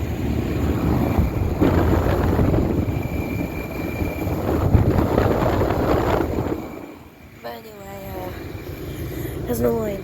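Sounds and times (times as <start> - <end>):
condenser fan whooshing: 0.0 - 10.0
faint high whine: 0.0 - 10.0.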